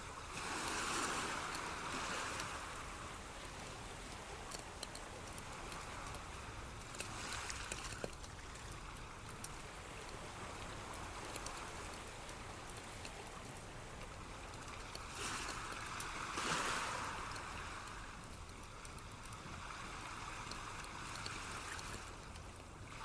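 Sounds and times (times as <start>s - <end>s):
stream trickling and gurgling: 0.0s - 23.0s.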